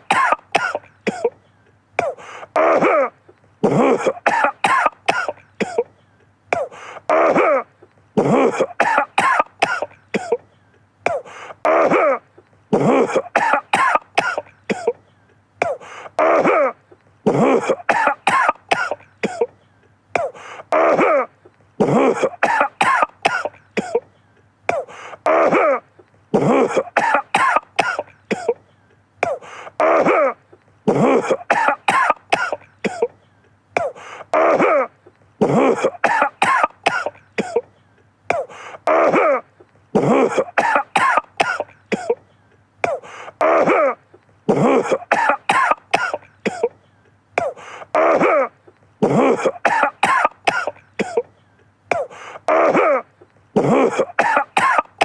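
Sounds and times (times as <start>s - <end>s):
man coughing: 0.0s - 19.6s, 20.2s - 46.8s, 47.4s - 55.0s.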